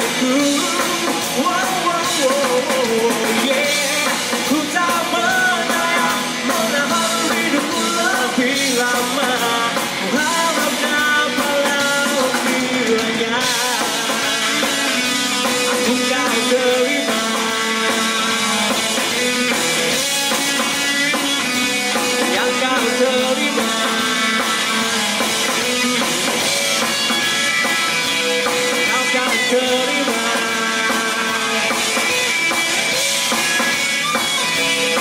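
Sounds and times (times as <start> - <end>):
bass guitar: 0.0 - 35.0
drum kit: 0.0 - 35.0
electric guitars: 0.0 - 35.0
sung vocals: 0.0 - 35.0.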